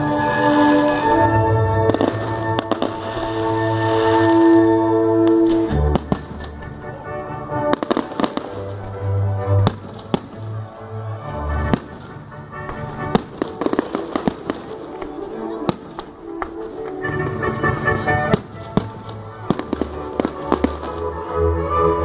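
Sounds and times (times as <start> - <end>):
fireworks bangs and crackles: 0.0 - 21.8
music playing: 0.0 - 22.0.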